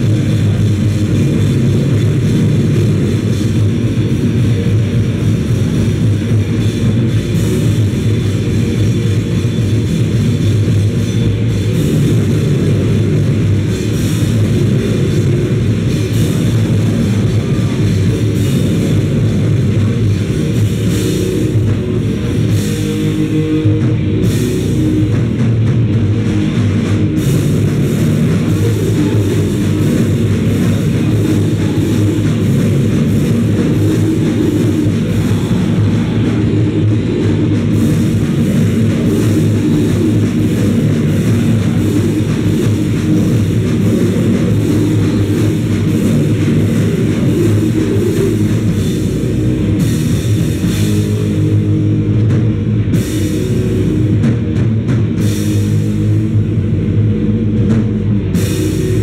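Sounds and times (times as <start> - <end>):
cymbal strikes: 0.0 - 54.4
noisecore band playing live: 0.0 - 59.0.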